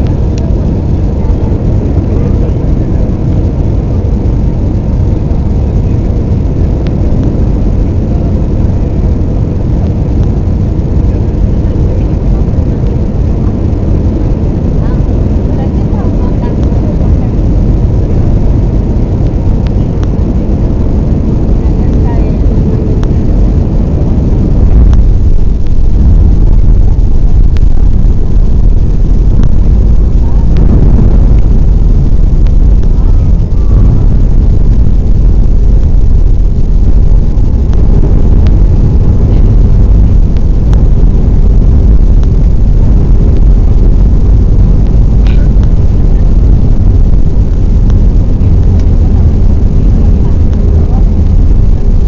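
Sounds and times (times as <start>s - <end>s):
faint steady hum: 0.0s - 52.0s
jet engines and airflow rumble: 0.0s - 52.0s.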